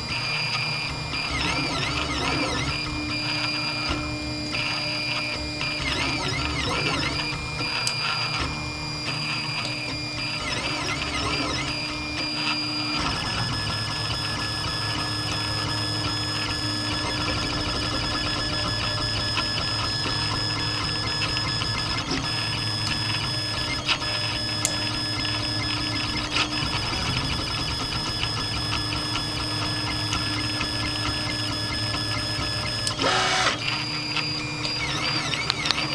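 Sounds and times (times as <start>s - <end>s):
stepper motors whining: 0.0s - 35.9s.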